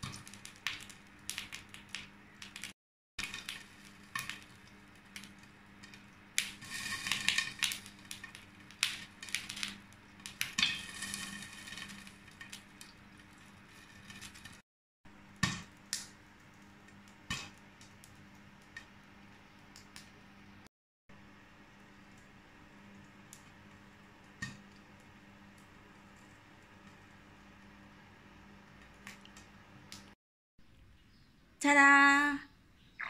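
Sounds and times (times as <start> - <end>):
popcorn popping in a pan: 0.0 - 30.2.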